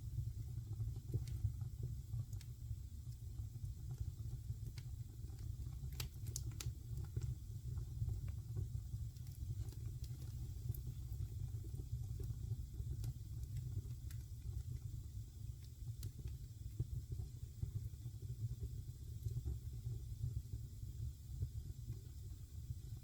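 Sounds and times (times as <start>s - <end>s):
fire crackles and pops: 0.0s - 23.0s
wood fire rumbling: 0.0s - 23.0s.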